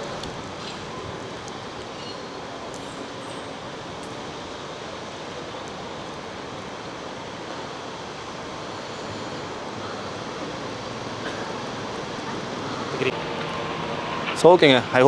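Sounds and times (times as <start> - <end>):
rushing open air: 0.0 - 15.0.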